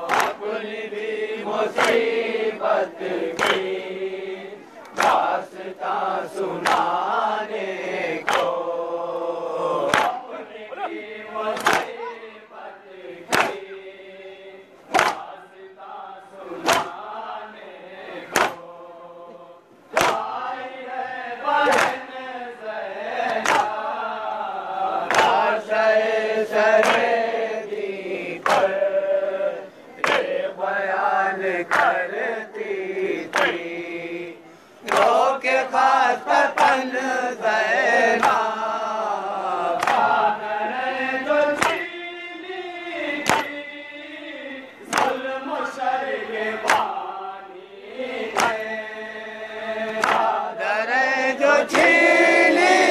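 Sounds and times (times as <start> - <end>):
voices chanting in chorus: 0.0 - 52.9.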